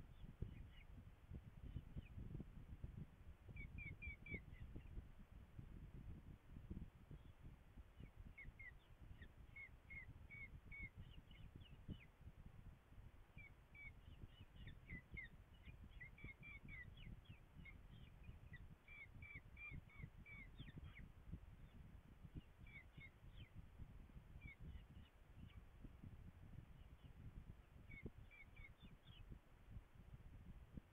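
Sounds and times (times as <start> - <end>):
wind rumble on microphone: 0.0 - 30.9.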